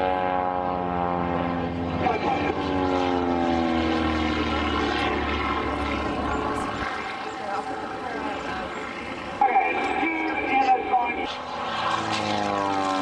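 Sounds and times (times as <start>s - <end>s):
propeller plane flying overhead: 0.0s - 13.0s.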